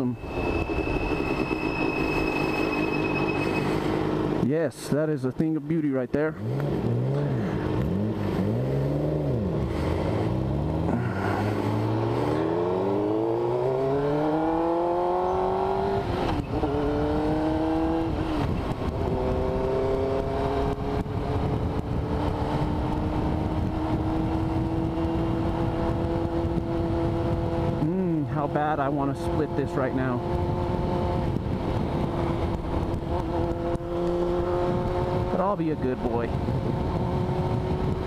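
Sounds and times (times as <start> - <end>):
motorcycle engine revving: 6.3 - 38.0.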